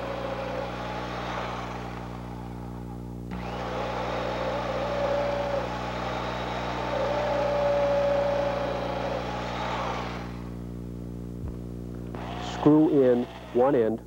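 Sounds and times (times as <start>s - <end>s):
electric drill boring into wood: 0.0s - 2.7s, 3.3s - 10.6s, 12.1s - 13.9s.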